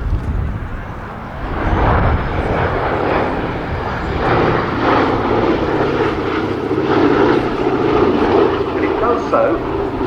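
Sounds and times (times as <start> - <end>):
radial piston engines droning: 1.2 - 10.0.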